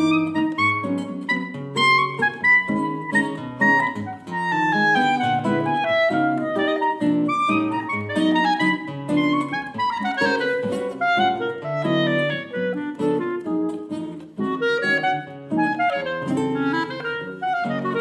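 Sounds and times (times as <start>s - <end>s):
clarinet melody: 0.0s - 18.0s
classical guitar chords: 0.0s - 18.0s.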